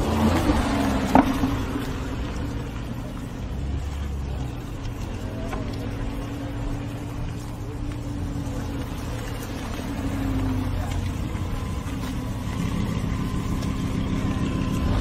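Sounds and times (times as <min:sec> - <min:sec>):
sports car engine running: 0:00.0 - 0:15.0.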